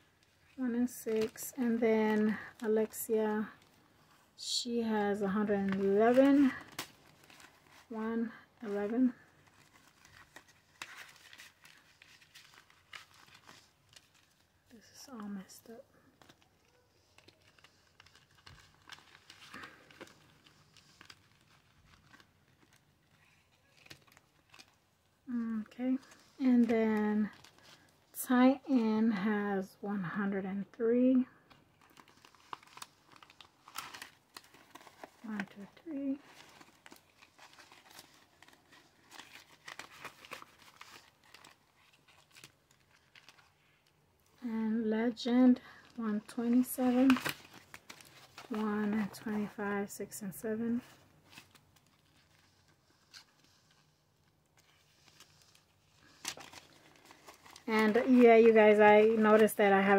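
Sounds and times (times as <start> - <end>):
paper banknotes crinkling: 5.2 - 28.1, 31.4 - 44.0, 45.2 - 49.6, 50.7 - 59.9.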